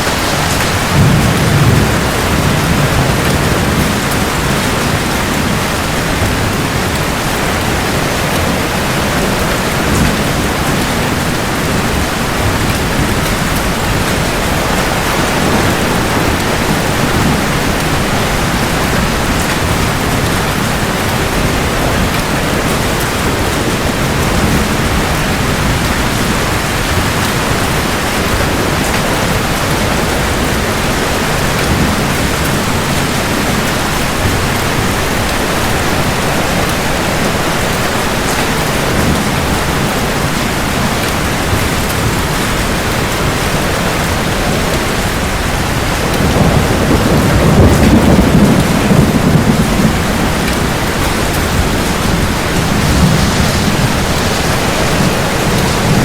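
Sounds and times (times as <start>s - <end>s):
heavy rain hiss: 0.0s - 56.0s
low thunder rumble: 0.0s - 56.0s.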